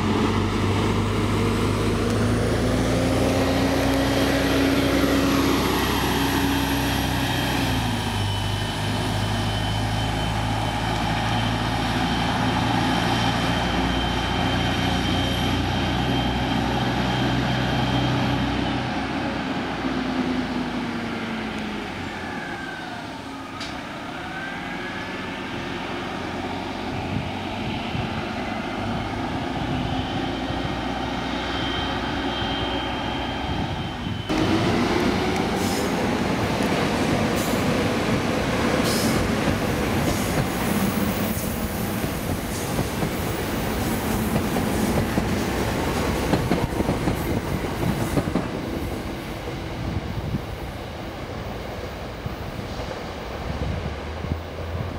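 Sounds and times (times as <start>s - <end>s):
bus diesel engine pulling away: 0.0s - 54.9s
traffic: 0.0s - 54.9s.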